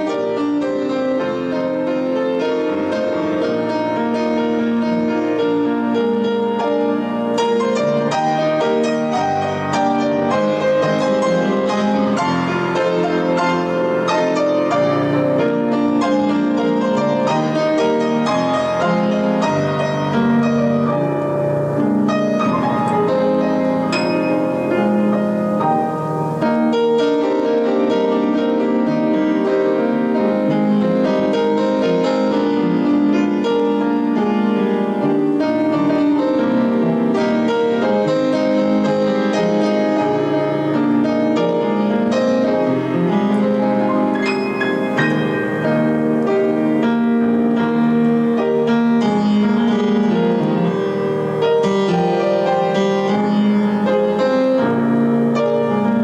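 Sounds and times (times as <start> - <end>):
slow piano music: 0.0 - 56.0.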